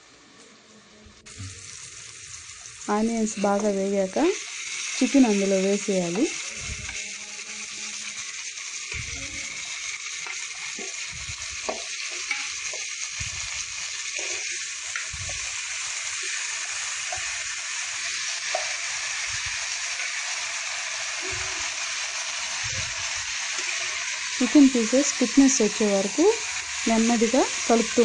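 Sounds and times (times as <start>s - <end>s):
chicken and onions sizzling in oil: 0.0s - 28.0s.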